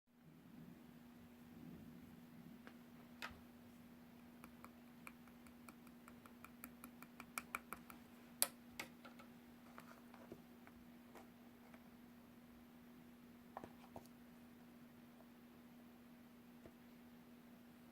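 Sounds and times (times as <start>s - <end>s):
faint steady hum: 0.1s - 17.9s.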